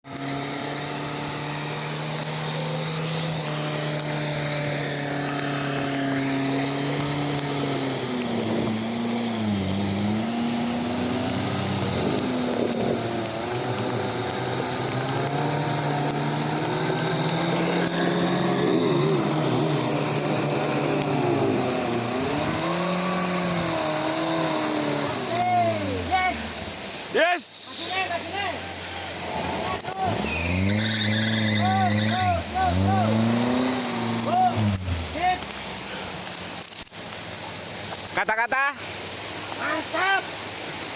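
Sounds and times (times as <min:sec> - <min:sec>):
vehicle engine revving: 0:00.0 - 0:27.1, 0:29.0 - 0:38.2
heavy rain hiss: 0:00.5 - 0:40.9.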